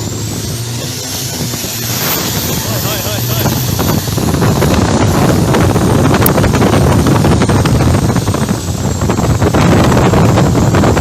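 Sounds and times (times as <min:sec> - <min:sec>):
boat diesel engine running hard: 0:00.0 - 0:11.0
wind buffeting microphone: 0:00.0 - 0:11.0.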